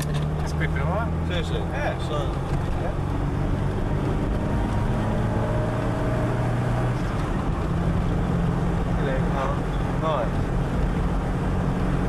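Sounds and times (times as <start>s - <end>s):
car engine: 0.0s - 12.0s
road noise inside car: 0.0s - 12.0s.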